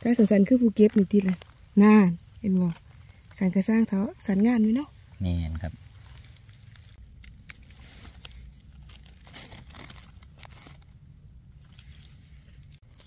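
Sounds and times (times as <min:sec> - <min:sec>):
rustling leaf litter: 0:00.0 - 0:13.0.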